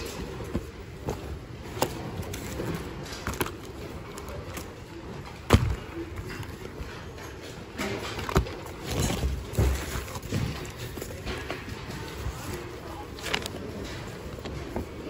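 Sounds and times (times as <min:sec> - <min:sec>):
rustling of fabric and plastic: 0:00.0 - 0:15.0.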